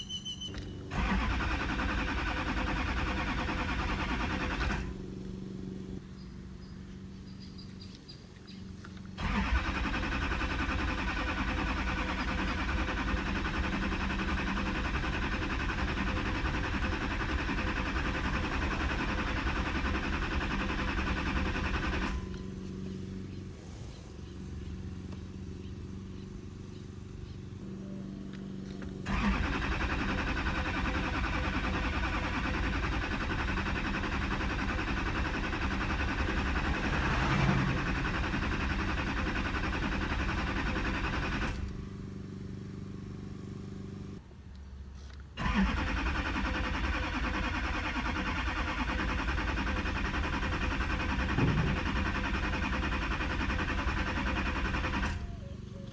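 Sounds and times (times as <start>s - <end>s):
diesel engine cranking: 0.0s - 44.2s, 45.1s - 55.9s.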